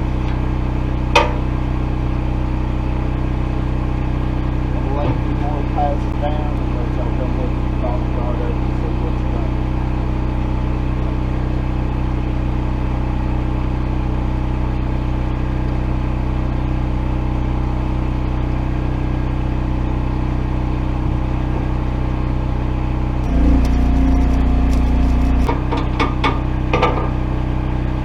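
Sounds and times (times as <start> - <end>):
generator engine running: 0.0 - 28.0.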